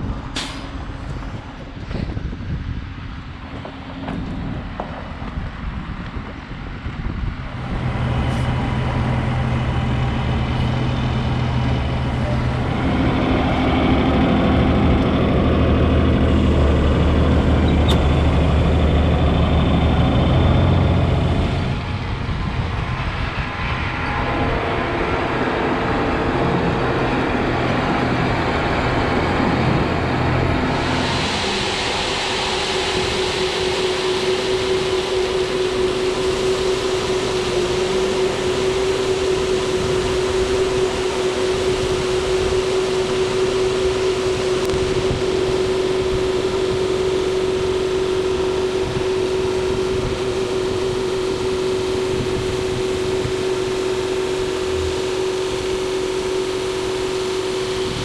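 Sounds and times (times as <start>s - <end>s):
tractor diesel engine running: 7.3s - 58.0s.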